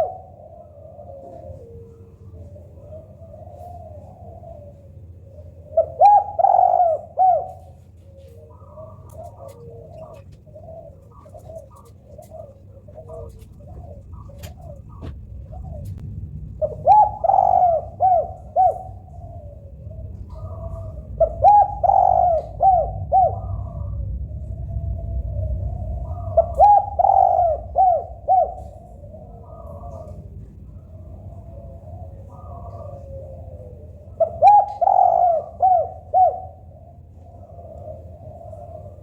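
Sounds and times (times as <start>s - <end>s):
dove cooing: 0.0s - 39.0s
low steady rumble: 0.0s - 39.0s.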